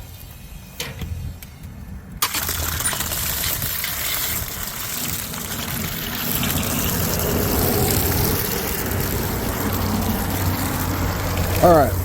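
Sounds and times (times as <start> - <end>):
water gushing from a pipe: 2.2 - 12.0.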